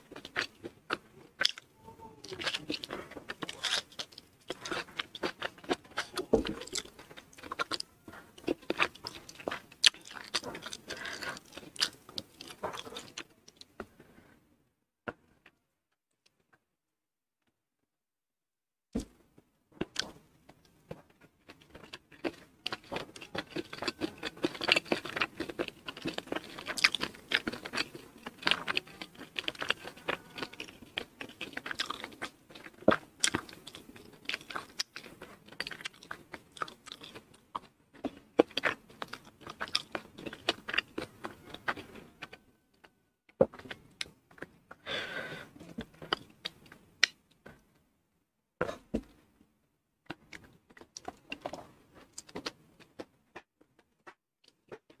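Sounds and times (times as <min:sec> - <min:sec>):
chewing and crunching food: 0:00.0 - 0:14.4, 0:19.0 - 0:47.8, 0:50.0 - 0:55.0.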